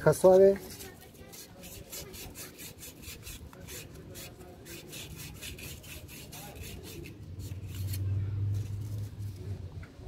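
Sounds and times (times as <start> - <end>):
sandpaper rubbing on metal: 0.7 - 9.1.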